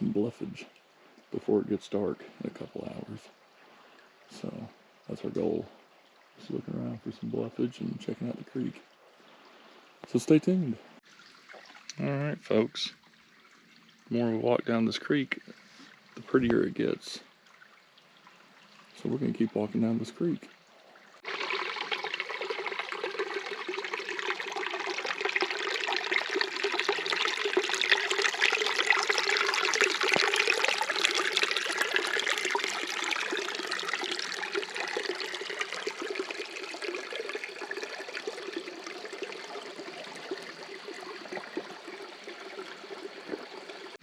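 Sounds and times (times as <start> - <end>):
creek water over rocks: 0.0 - 44.0.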